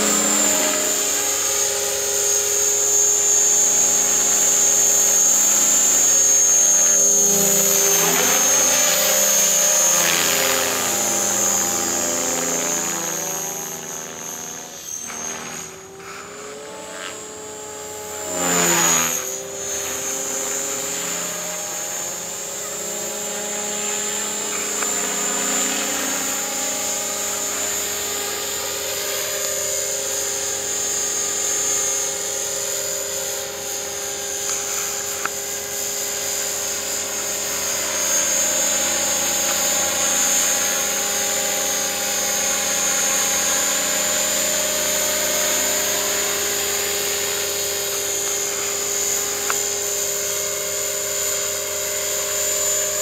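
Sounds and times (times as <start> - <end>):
model helicopter whine: 0.0 - 53.0.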